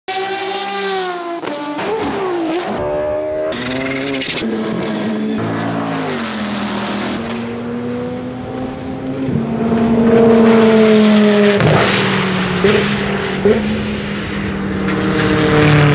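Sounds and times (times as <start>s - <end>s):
race car engines revving: 0.1s - 15.9s.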